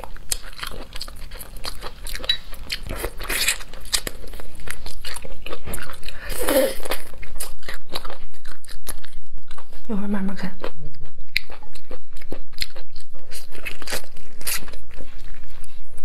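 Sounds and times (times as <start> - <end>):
crunchy chewing: 0.0 - 9.9, 10.5 - 16.0.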